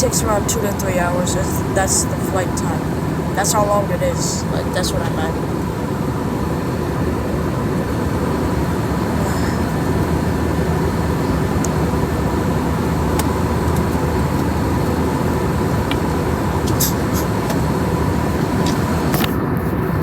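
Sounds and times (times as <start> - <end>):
airliner engine rumble: 0.0 - 20.0
faint steady hum: 0.0 - 20.0.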